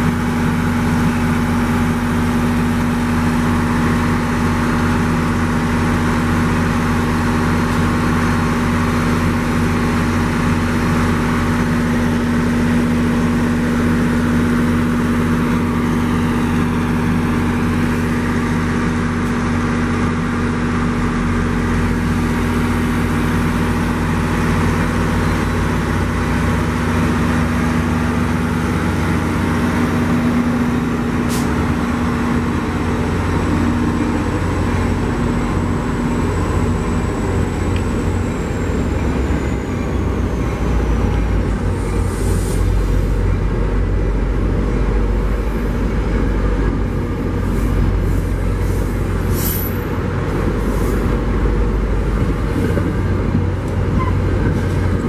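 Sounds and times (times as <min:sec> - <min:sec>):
diesel locomotive engine droning: 0:00.0 - 0:55.0
train starting to move rumble: 0:00.0 - 0:55.0.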